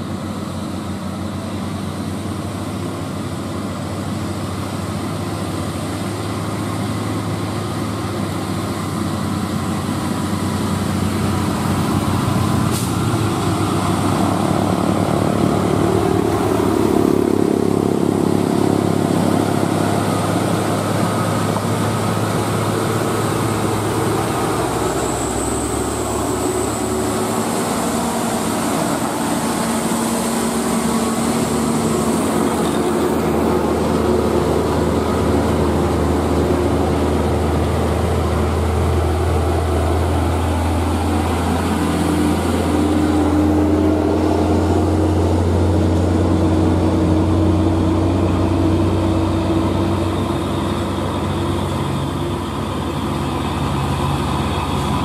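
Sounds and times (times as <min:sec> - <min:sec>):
dump truck diesel engine: 0:00.0 - 0:55.0
heavy truck engine approaching: 0:00.0 - 0:55.0.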